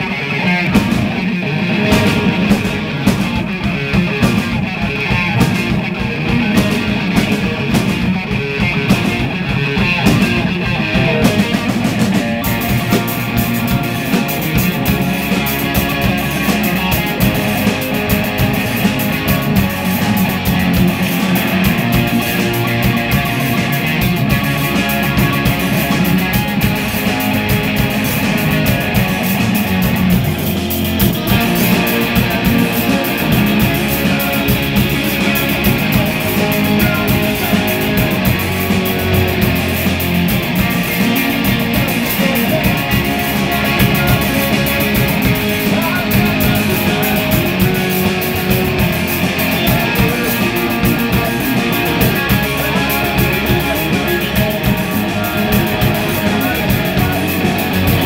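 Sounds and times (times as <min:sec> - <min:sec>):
bass guitar: 0:00.0 - 0:58.0
distorted electric guitars: 0:00.0 - 0:58.0
drums: 0:00.0 - 0:58.0.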